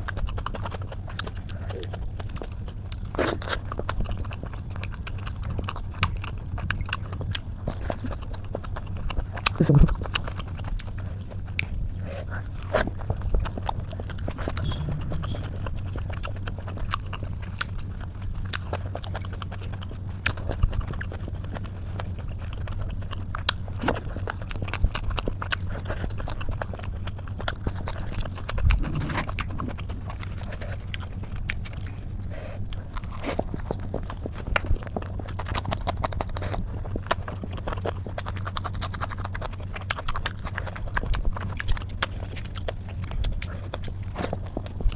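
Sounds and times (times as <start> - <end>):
chewing and mouth clicks: 0.0 - 44.9
steady low hum: 0.0 - 44.9.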